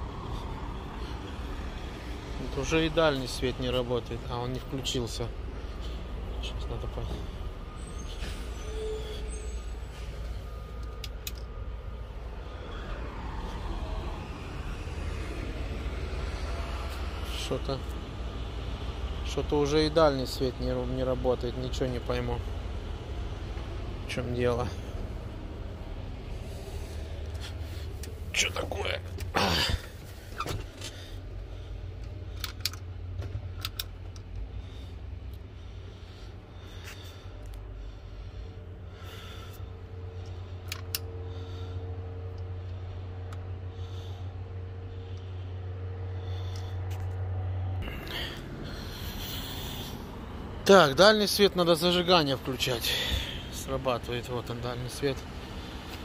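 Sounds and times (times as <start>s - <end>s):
diesel truck engines idling: 0.0s - 56.0s.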